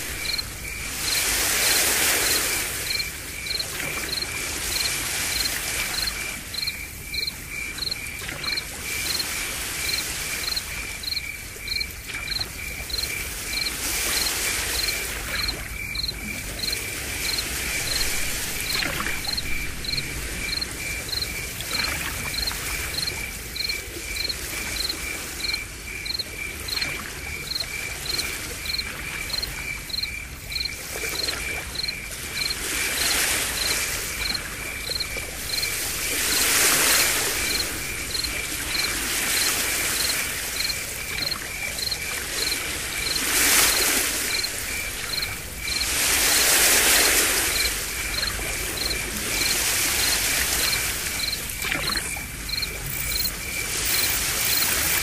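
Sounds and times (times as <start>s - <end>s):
insects chirping: 0.0s - 55.0s
surf: 0.0s - 55.0s.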